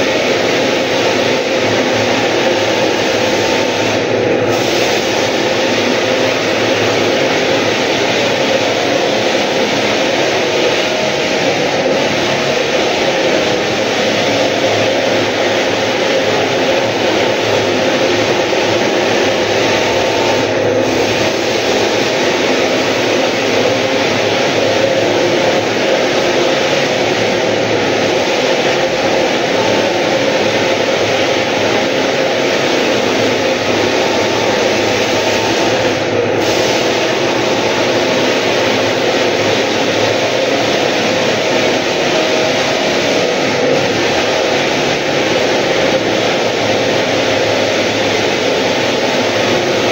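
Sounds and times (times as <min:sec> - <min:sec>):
floor sanding machine: 0:00.0 - 0:49.9.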